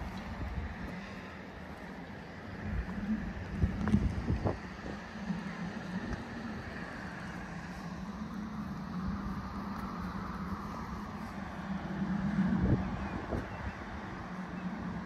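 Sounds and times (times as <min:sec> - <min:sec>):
distant engine droning: 0:00.0 - 0:15.0.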